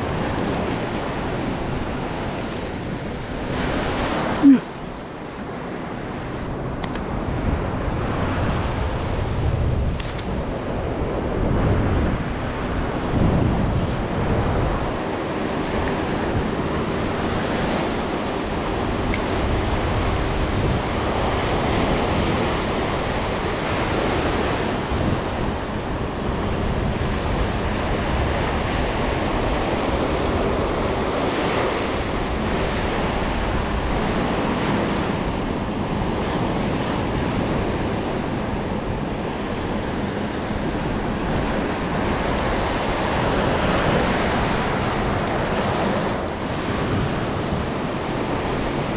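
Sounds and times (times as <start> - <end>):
ocean surf on sandy beach: 0.0 - 48.9
wind rumbling on microphone: 0.0 - 48.9.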